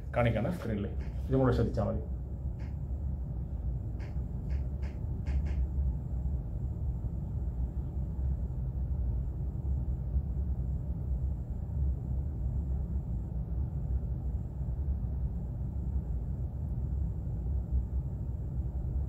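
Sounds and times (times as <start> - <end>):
low room noise rumble: 0.0 - 19.0.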